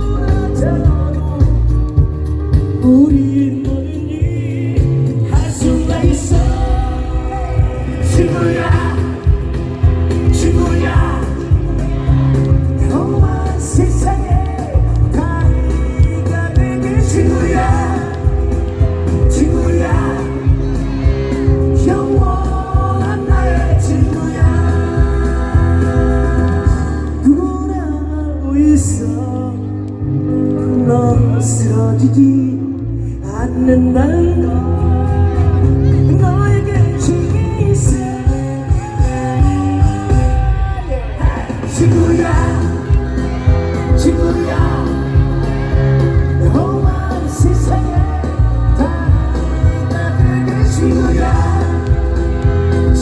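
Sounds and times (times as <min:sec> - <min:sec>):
steady drum beat: 0:00.0 - 0:27.0, 0:35.6 - 0:53.0
live band music: 0:00.0 - 0:53.0
steady bass line: 0:00.0 - 0:53.0
man singing long notes: 0:02.8 - 0:29.7, 0:30.8 - 0:53.0.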